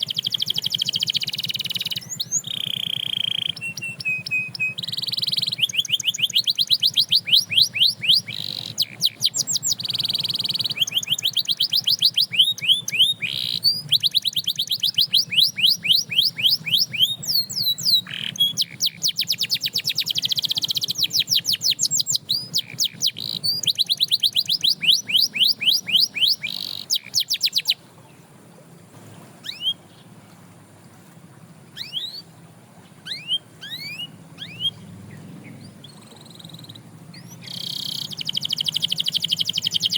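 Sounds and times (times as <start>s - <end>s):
canary chirps: 0.0s - 27.8s, 29.4s - 30.1s, 31.7s - 32.3s, 33.0s - 39.9s
canary trilling song: 0.0s - 27.9s, 29.0s - 30.1s, 31.7s - 39.9s.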